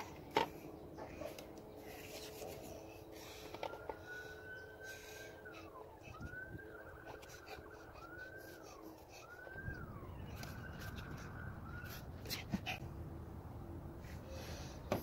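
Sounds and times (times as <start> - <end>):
faint siren wailing: 0.0 - 14.9.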